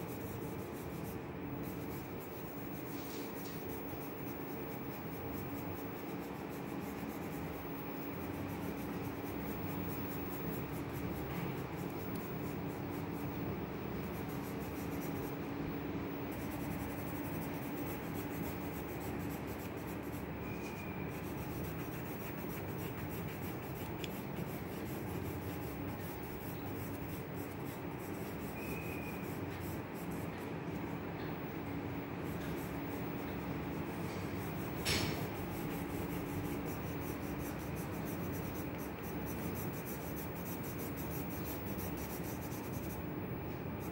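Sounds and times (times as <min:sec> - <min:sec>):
faint low hum: 0:00.0 - 0:43.9
pencil shading on paper: 0:00.0 - 0:43.9.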